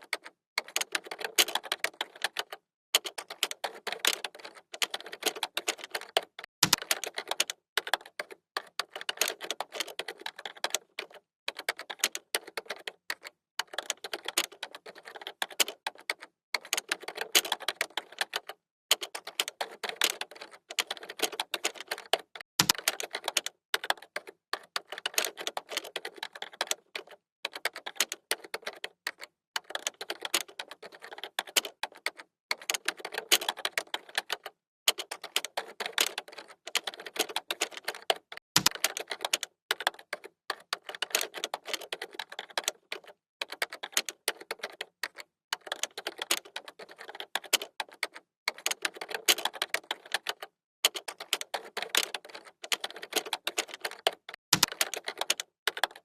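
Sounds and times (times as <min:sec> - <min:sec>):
keyboard typing: 0:00.0 - 0:56.0.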